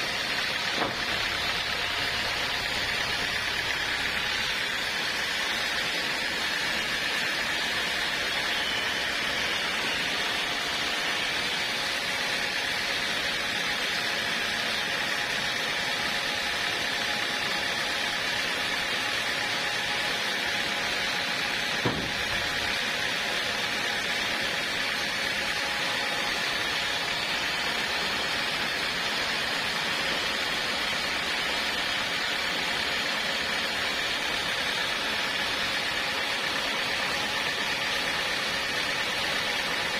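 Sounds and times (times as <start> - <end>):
sawmill running: 0.0 - 39.9.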